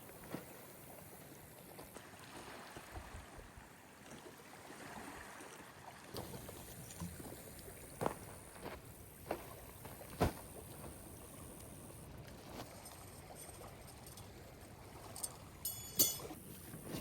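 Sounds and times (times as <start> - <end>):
water lapping at shore: 0.0 - 17.0.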